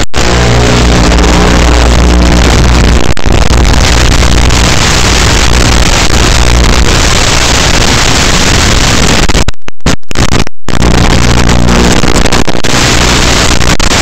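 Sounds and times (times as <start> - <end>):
low hum: 0.0 - 13.8
static hiss: 0.0 - 14.0.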